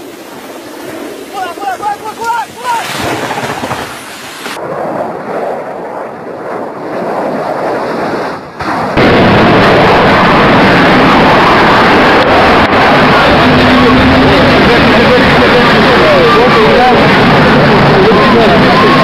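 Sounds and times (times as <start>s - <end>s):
jet engines roaring on afterburner: 0.0s - 19.0s
rough rumbling noise: 0.0s - 19.0s.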